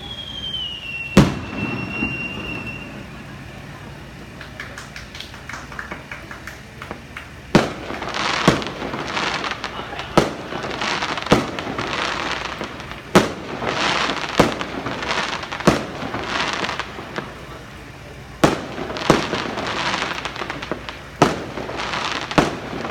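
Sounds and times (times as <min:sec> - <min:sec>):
firework bangs: 0:00.0 - 0:22.9
firework crackling: 0:00.0 - 0:22.9.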